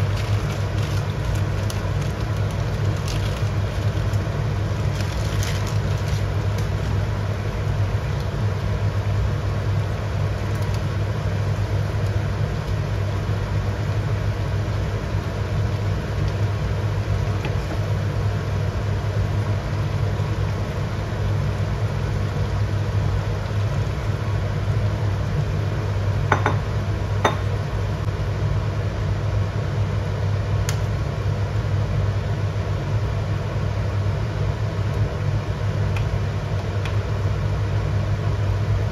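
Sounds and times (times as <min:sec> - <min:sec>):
gas burner flame drone: 0:00.0 - 0:38.9.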